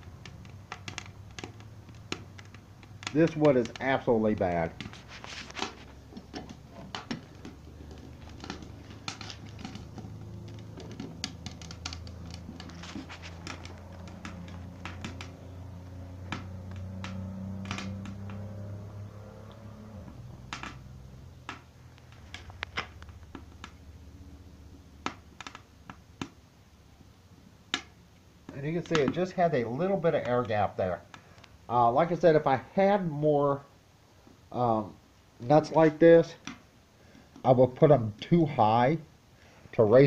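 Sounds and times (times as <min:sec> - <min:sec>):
low steady hum: 0:00.0 - 0:40.0
wood fire crackling in stove: 0:00.0 - 0:40.0.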